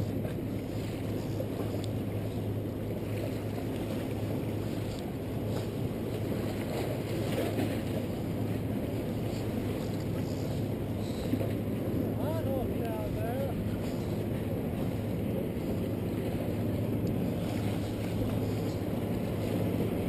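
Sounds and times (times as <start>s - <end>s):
waves lapping against rocks: 0.0s - 20.0s.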